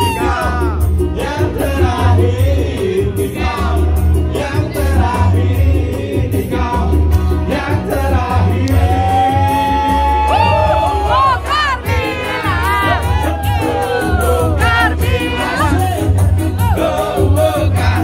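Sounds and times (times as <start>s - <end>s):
heavy bass beat: 0.0s - 18.0s
person singing: 0.0s - 18.0s.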